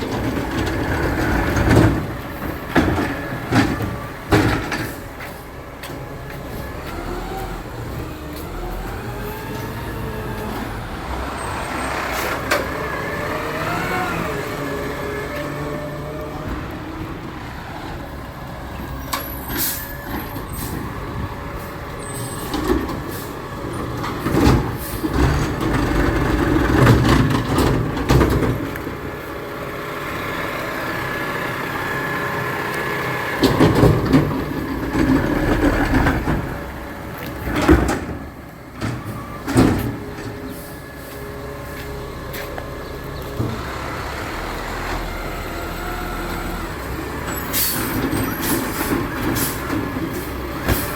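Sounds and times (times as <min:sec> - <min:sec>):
garbage truck engine running: 0:00.0 - 0:50.9.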